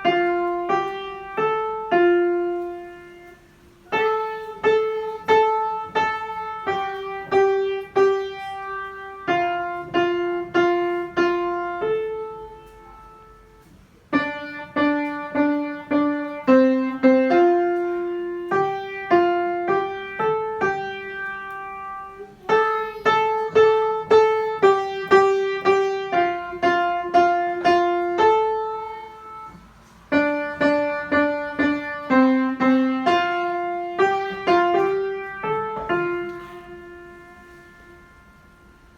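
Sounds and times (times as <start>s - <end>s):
piano melody: 0.0s - 38.9s.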